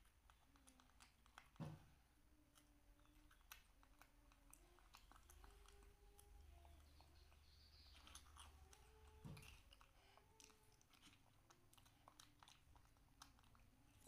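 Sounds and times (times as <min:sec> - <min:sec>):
faint crunching of crackers: 0:00.0 - 0:14.0.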